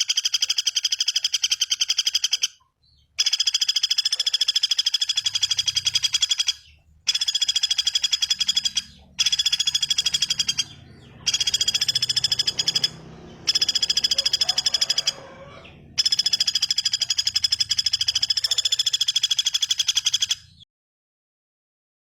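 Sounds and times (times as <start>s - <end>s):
bird rattling trill: 0.0s - 2.6s, 3.2s - 20.5s.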